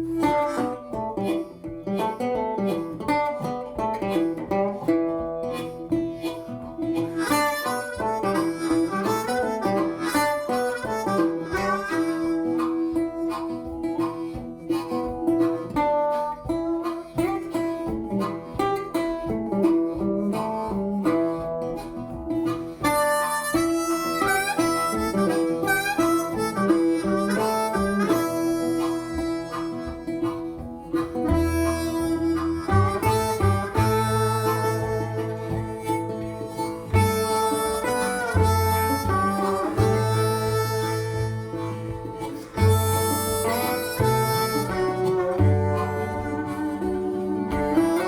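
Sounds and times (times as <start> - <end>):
bluegrass banjo and guitar music: 0.0 - 48.0
harmonica: 0.0 - 48.0.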